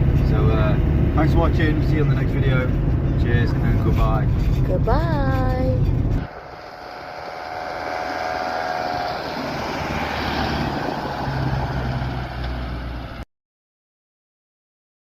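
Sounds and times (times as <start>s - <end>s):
vehicle engine droning: 0.0s - 13.2s
road noise: 0.0s - 13.3s.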